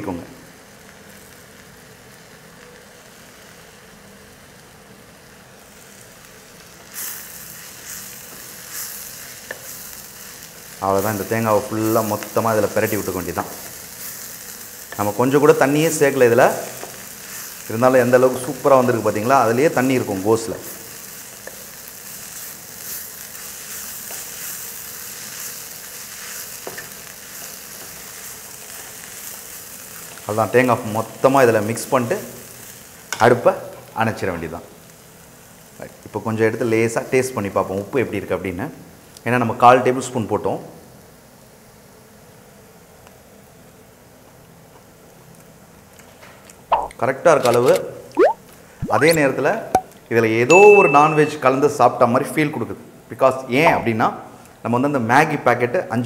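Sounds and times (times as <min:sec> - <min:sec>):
cabbage sizzling in a pan: 0:00.1 - 0:46.0, 0:48.1 - 0:52.4.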